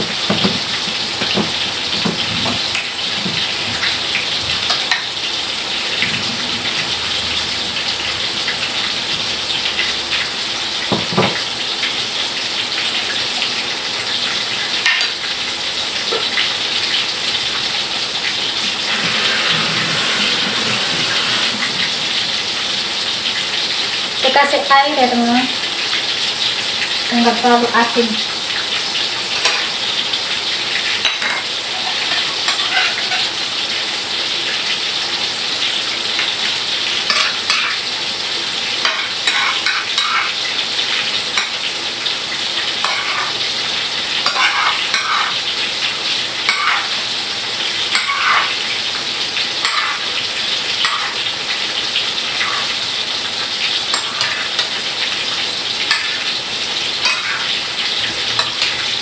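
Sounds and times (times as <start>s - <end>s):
cooking sizzling hiss: 0.0s - 59.0s.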